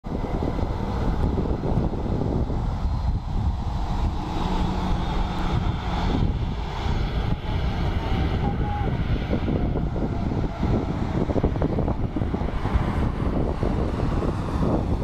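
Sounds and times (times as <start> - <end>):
jet engines running at low power: 0.0 - 15.0
wind buffeting microphone: 0.0 - 15.0.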